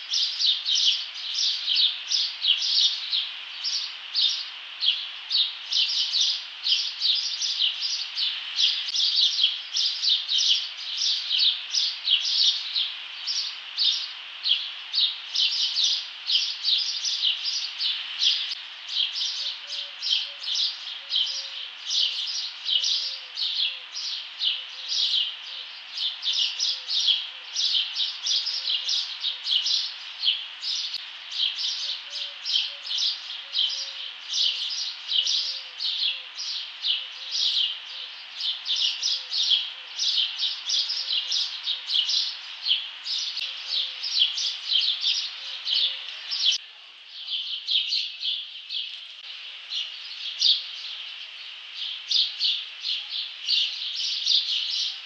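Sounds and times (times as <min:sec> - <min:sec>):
birds chirping: 0:00.0 - 0:55.0
faint low background noise: 0:00.0 - 0:55.0.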